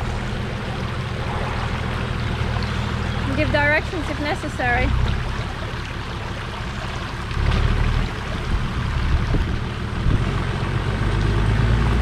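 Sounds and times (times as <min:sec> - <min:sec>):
car engine running: 0:00.0 - 0:12.0
water rushing: 0:00.0 - 0:12.0.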